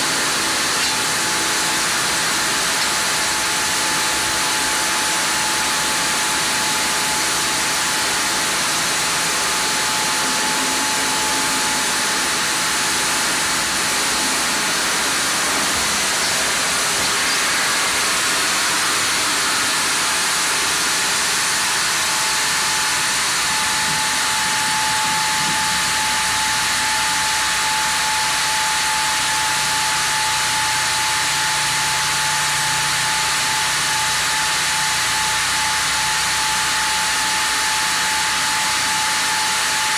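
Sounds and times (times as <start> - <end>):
band saw cutting log: 0.0 - 39.9
thin steady whine: 0.0 - 39.9.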